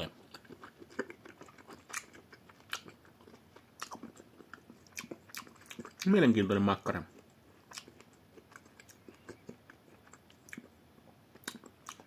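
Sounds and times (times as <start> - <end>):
person chewing food: 0.0 - 6.1, 7.1 - 12.0.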